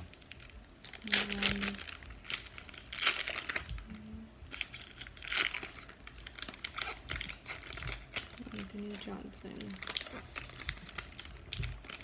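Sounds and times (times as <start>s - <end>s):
cards and packaging rustling: 0.0s - 12.0s.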